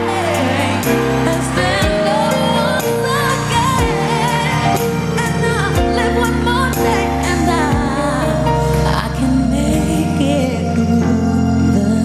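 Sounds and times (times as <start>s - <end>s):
band playing chords and bass: 0.0s - 12.0s
woman singing: 0.0s - 12.0s.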